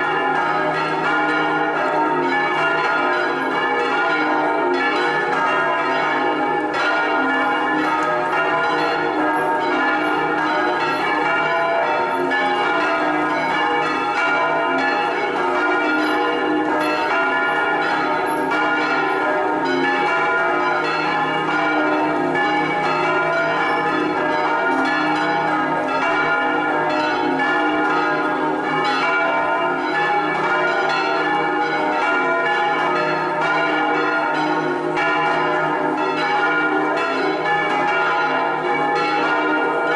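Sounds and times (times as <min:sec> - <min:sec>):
swinging church bells pealing: 0:00.0 - 0:39.9.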